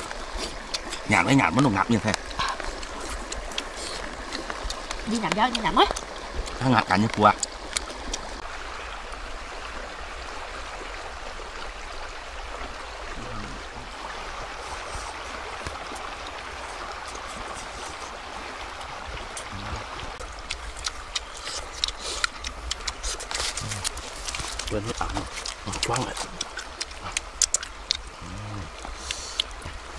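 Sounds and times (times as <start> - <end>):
rocky stream flowing: 0.0 - 29.9.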